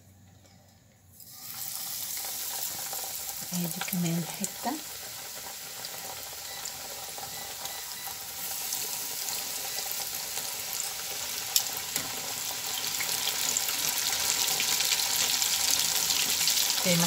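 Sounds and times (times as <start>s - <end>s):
meat sizzling in hot oil: 1.2s - 17.0s.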